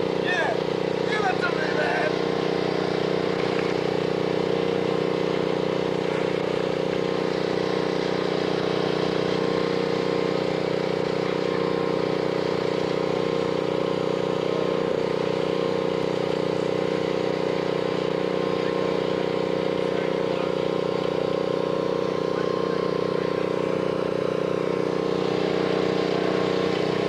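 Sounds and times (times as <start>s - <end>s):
van engine and road noise: 0.0s - 27.0s.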